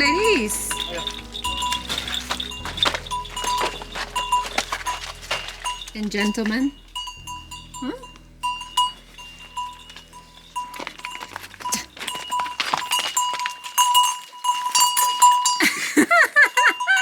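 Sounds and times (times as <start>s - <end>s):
cow bells ringing: 0.0s - 17.0s.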